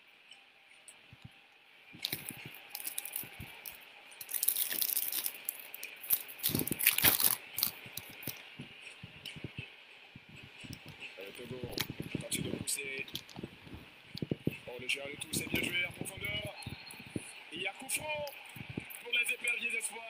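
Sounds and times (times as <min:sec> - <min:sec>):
crackling and rustling: 0:00.9 - 0:19.1.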